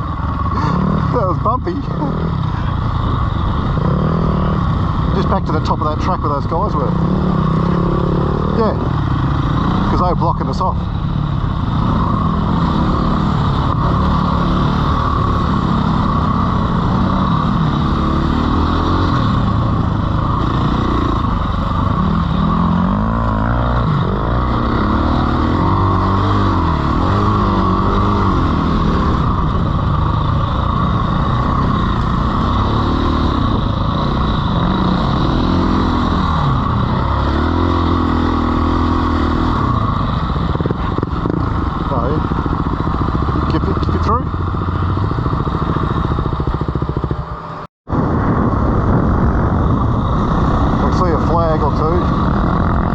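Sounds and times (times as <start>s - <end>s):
dirt bike engine revving: 0.0s - 52.9s
steady rushing noise: 0.0s - 52.9s.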